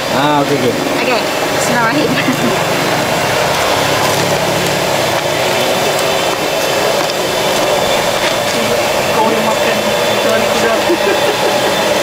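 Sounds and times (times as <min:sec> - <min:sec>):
loud mechanical rushing noise: 0:00.0 - 0:12.0.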